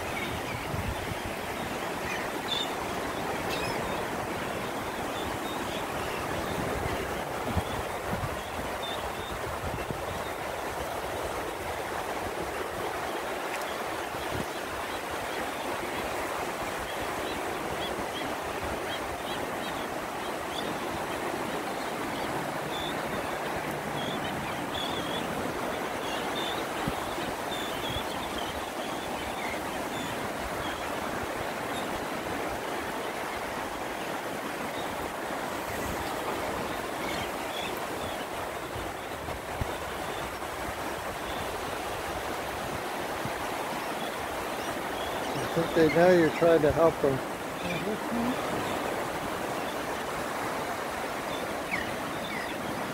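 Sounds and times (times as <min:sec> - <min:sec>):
surf rushing: 0:00.0 - 0:52.9.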